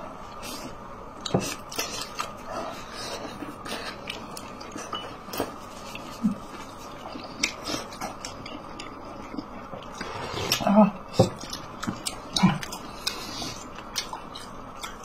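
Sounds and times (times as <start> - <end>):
chewing and wet mouth sounds: 1.2 - 10.6, 11.2 - 15.0.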